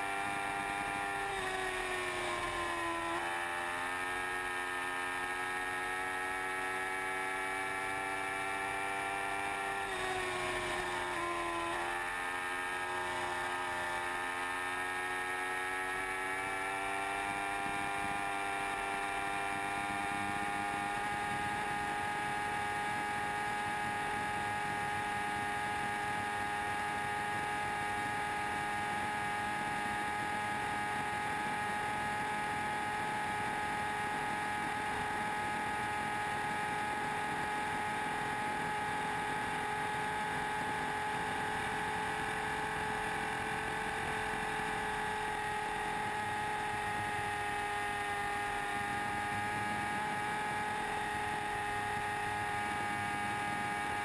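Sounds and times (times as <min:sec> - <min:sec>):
motorcycle engine whine: 0:00.0 - 0:54.0.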